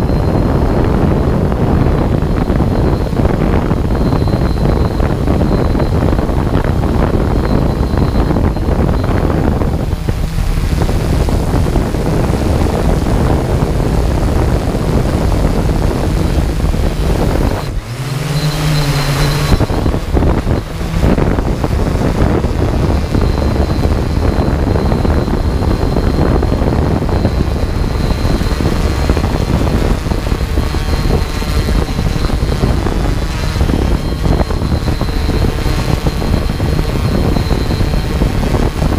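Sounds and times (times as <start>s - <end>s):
drone motors and propellers: 0.0s - 38.9s
wind on microphone: 0.0s - 38.9s.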